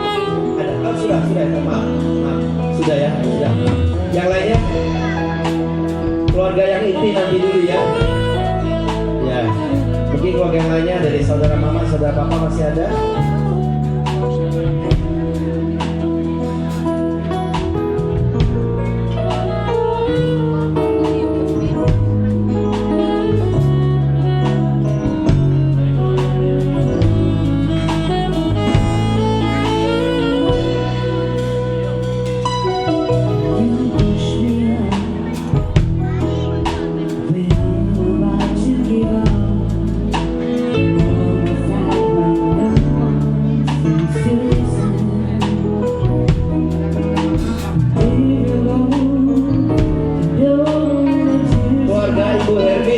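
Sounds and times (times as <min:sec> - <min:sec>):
live band playing instrumental music: 0:00.0 - 0:52.9.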